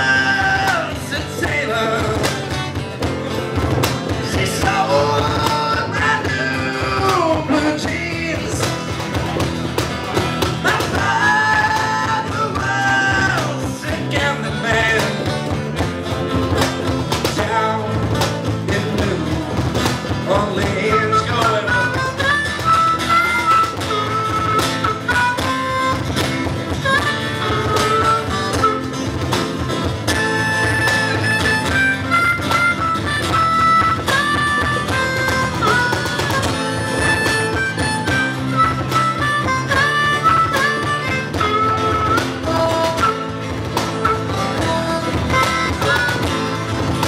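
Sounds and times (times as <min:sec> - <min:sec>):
harmonica solo: 0:00.0 - 0:16.6, 0:20.5 - 0:47.0
bass guitar: 0:00.0 - 0:47.0
cajon beat: 0:00.0 - 0:47.0
strummed acoustic guitars: 0:00.0 - 0:47.0.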